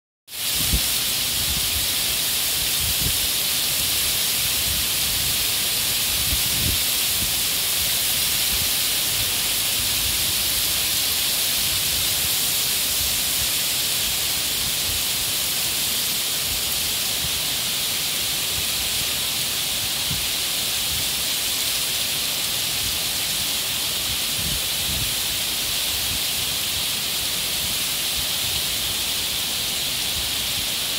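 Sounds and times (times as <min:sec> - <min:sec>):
heavy rain hiss: 0:00.3 - 0:30.9.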